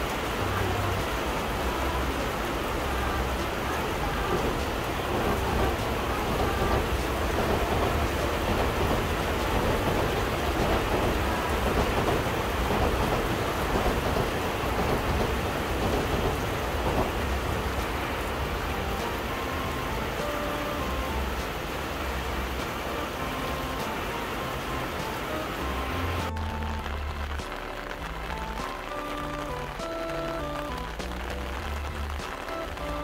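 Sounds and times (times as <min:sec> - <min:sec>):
rain falling on roofs: 0:00.0 - 0:33.0.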